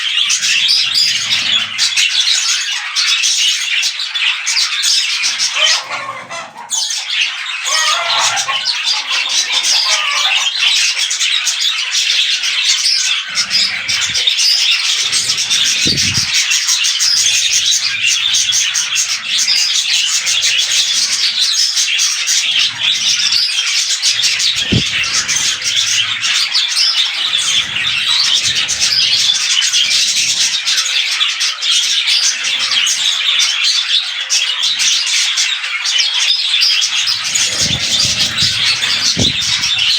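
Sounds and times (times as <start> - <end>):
budgerigars chattering: 0.0 - 31.4, 36.7 - 39.9.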